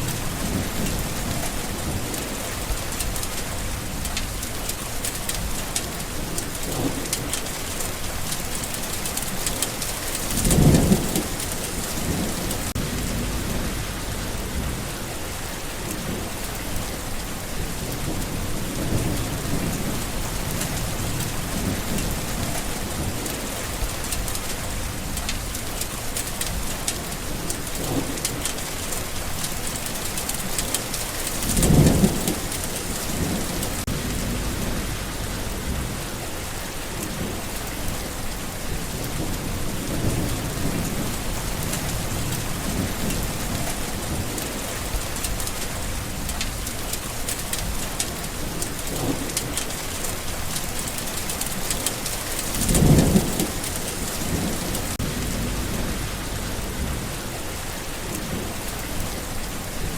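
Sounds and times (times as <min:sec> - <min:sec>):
low rumbles of thunder: 0:00.0 - 0:59.9
steady rain falling: 0:00.0 - 0:59.9.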